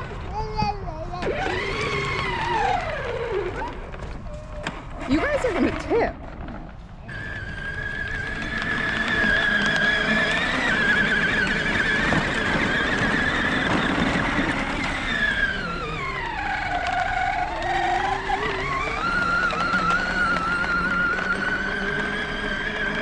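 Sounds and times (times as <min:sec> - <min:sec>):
electric motor whine: 0:01.2 - 0:23.0.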